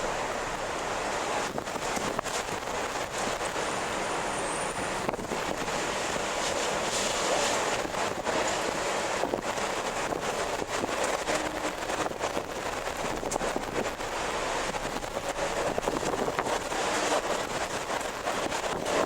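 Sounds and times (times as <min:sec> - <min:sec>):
strong wind rushing: 0:00.0 - 0:19.0.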